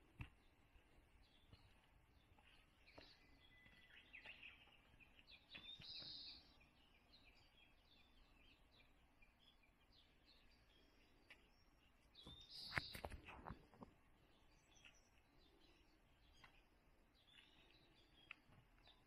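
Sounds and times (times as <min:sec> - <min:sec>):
faint birdsong chirps: 0:00.0 - 0:19.0.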